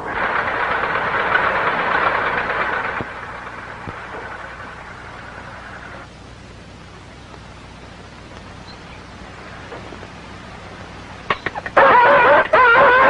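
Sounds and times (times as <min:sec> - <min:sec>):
film soundtrack hiss: 0:00.0 - 0:13.0.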